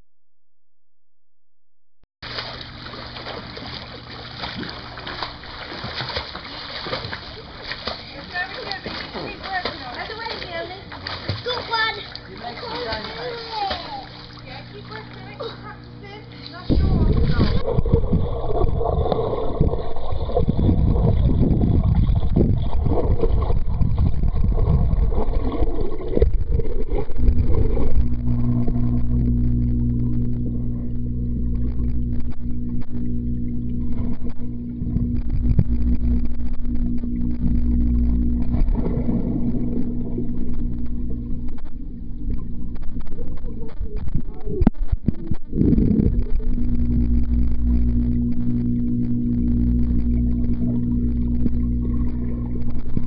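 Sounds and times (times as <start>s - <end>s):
low steady hum: 2.2s - 53.0s
pool water splashing: 2.2s - 53.0s.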